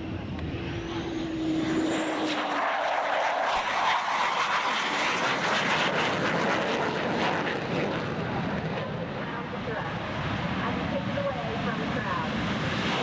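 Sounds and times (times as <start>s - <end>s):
jet engine roar: 0.0s - 13.0s
jet engine whine: 0.0s - 13.0s.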